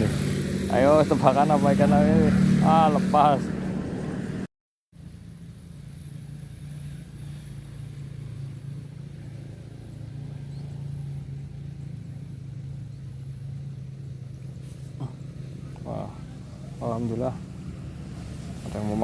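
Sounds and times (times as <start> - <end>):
small engine humming: 0.0 - 19.0.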